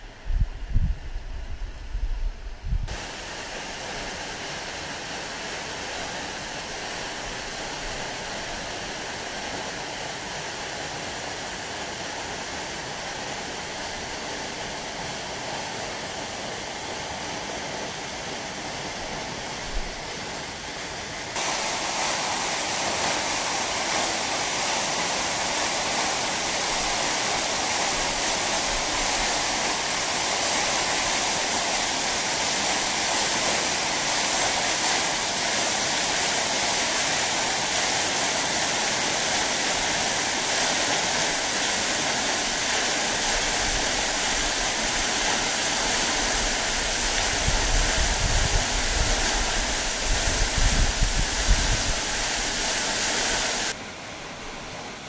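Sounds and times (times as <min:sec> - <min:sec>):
waterfall rushing: 0:02.9 - 0:55.0.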